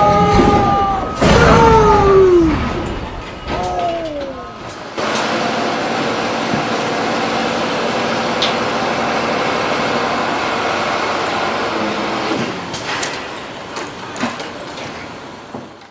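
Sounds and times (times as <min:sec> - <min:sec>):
heavy vehicle engine running: 0:00.0 - 0:15.5.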